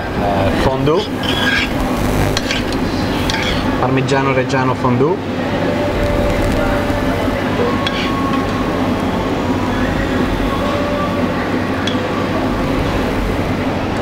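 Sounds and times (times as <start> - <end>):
loud rumbling background noise: 0.0 - 14.0.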